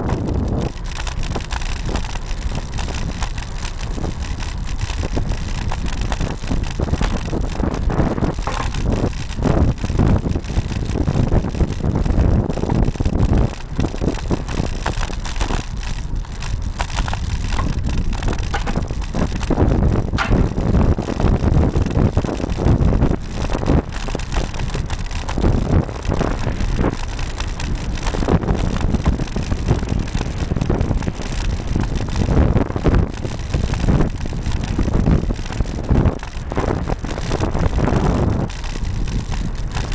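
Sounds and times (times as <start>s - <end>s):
bike jolts and rattles: 0.0s - 39.9s
wind rushing over microphone: 0.0s - 39.9s.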